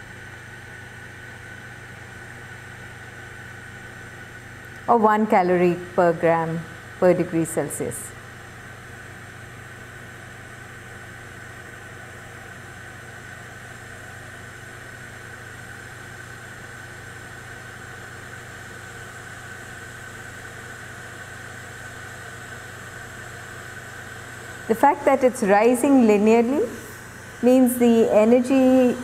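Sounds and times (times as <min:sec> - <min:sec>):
electric kettle hissing: 0:00.0 - 0:29.0.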